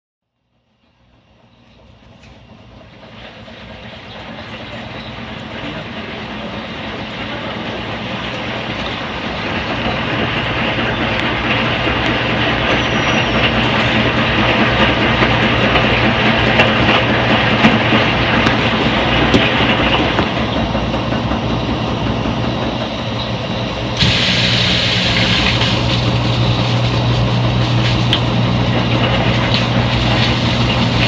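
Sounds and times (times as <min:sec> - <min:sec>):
washing machine spinning: 0:01.2 - 0:31.0.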